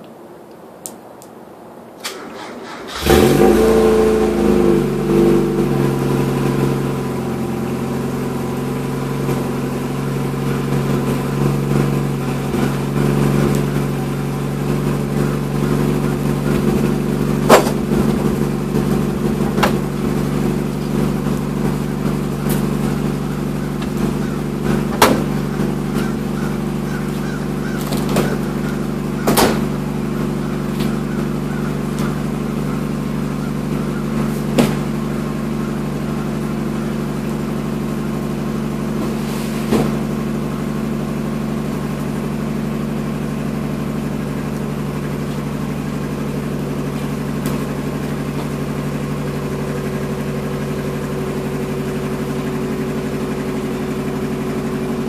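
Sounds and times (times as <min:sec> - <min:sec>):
car engine idling: 0:01.3 - 0:55.0.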